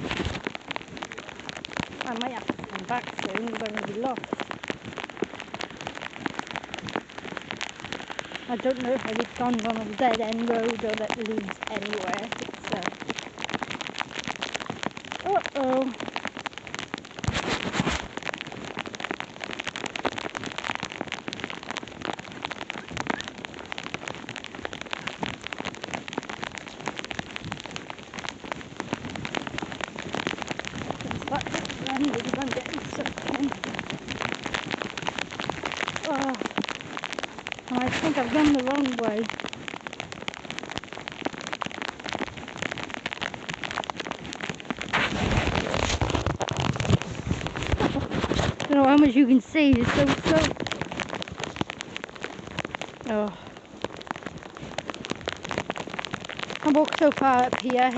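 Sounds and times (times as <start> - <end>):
heavy rain on rain jacket: 0.0 - 57.9.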